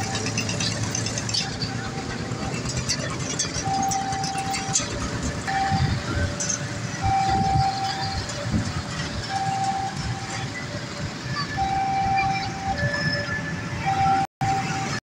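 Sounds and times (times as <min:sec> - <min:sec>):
level-crossing warning alarm: 0:00.0 - 0:15.0
traffic engine hum: 0:00.0 - 0:15.0.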